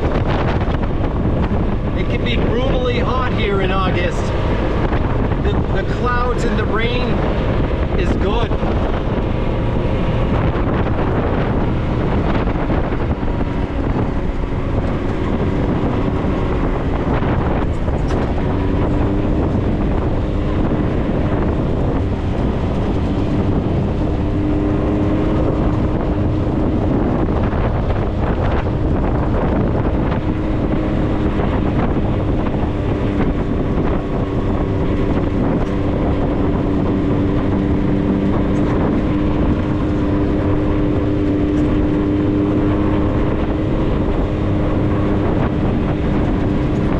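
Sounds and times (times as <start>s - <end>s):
vehicle engine running: 0.0s - 46.9s
wind buffeting microphone: 0.0s - 46.9s.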